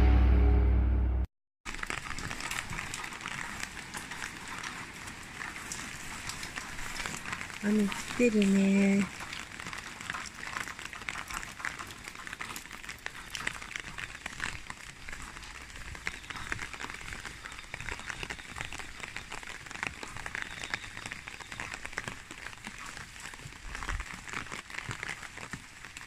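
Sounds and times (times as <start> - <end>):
heavy rain falling: 1.7 - 26.0.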